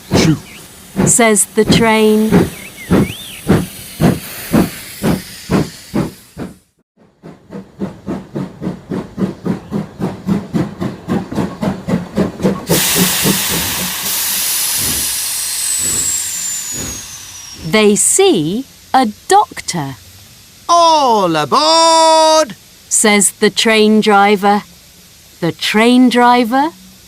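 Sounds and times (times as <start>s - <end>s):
steady hiss of steam: 0.0s - 6.8s, 7.8s - 27.0s
steam locomotive chuffing: 0.0s - 27.0s.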